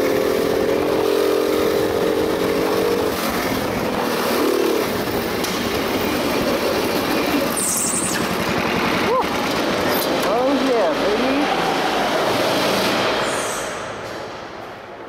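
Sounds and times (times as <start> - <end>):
go-kart engine revving: 0.0 - 14.2.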